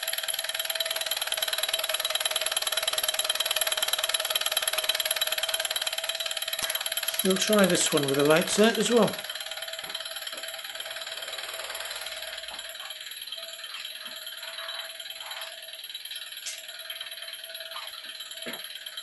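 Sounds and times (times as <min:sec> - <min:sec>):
small engine rattling: 0:00.0 - 0:19.0.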